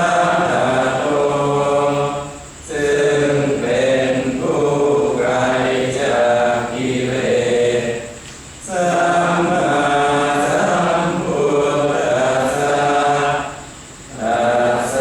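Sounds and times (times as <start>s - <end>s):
group of voices chanting: 0.0s - 15.0s.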